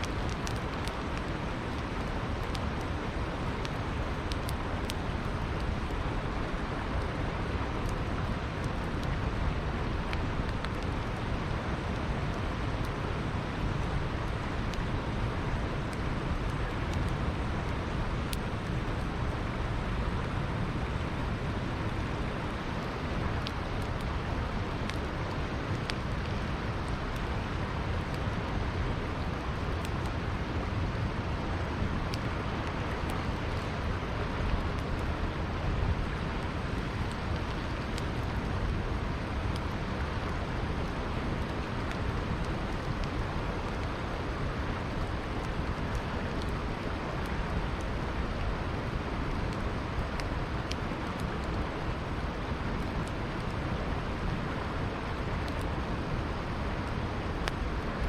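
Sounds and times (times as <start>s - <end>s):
campfire crackling and popping: 0.0s - 58.0s
river flowing: 0.0s - 58.0s.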